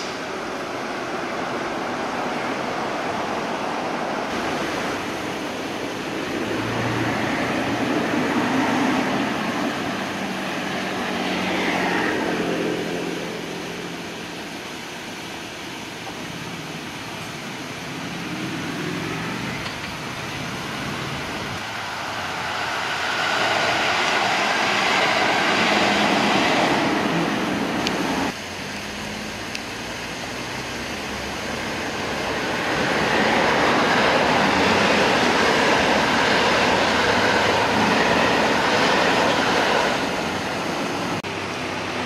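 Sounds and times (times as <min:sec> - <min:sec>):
electric train approaching: 0:00.0 - 0:42.0
express train passing: 0:00.0 - 0:42.0.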